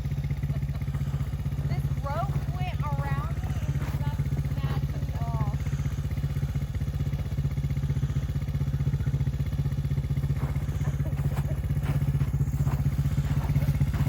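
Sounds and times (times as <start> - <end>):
atv engine running at low speed: 0.0 - 14.0.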